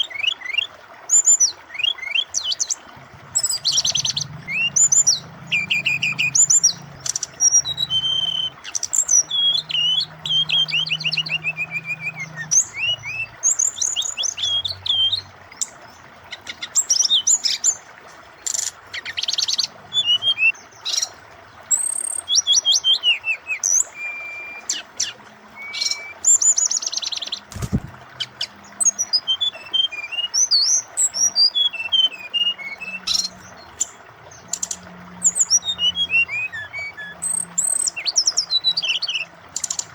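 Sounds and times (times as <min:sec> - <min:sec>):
bird singing trills and whistles: 0:00.0 - 0:17.8, 0:18.4 - 0:39.9
running water hiss: 0:00.0 - 0:39.9.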